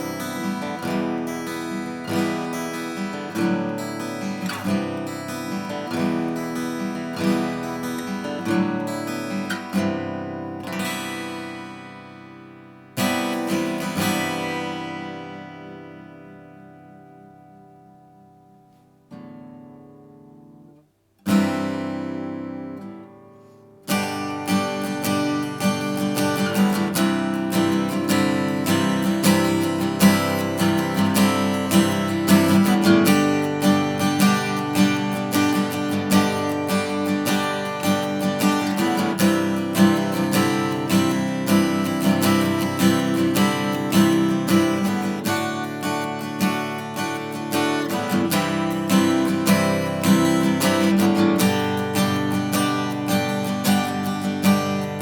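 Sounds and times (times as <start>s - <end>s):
acoustic guitar strumming chords: 0.0s - 55.0s.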